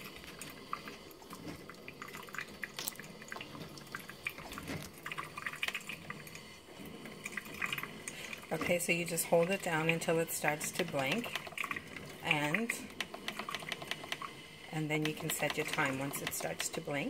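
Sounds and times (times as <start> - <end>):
coffee maker brewing: 0.0 - 17.0
heating water popping: 0.0 - 17.0.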